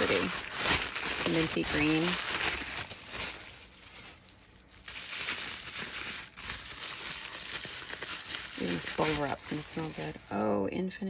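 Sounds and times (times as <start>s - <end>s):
packing paper and bubble wrap crinkling: 0.0s - 10.6s.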